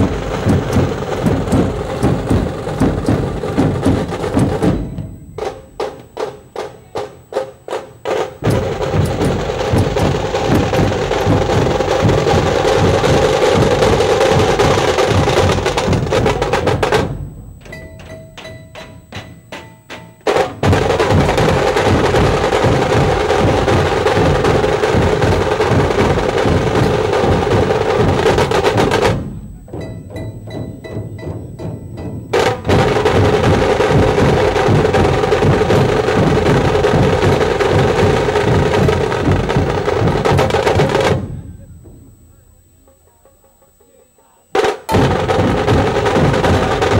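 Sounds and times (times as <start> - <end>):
dhol drums beating fast rhythm: 0.0 - 17.4, 18.4 - 46.9.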